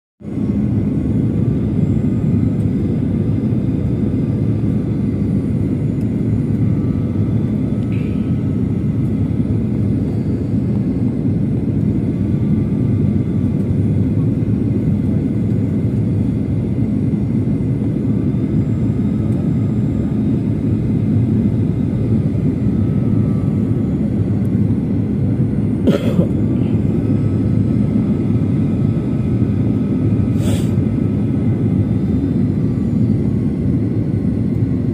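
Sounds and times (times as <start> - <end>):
airliner cabin engine rumble: 0.2 - 34.9.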